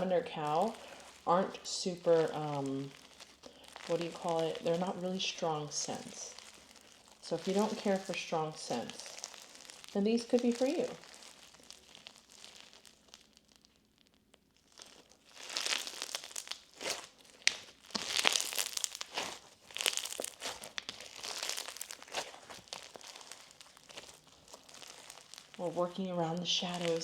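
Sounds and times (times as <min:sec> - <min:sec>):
slime crackling and popping: 0:00.0 - 0:27.0.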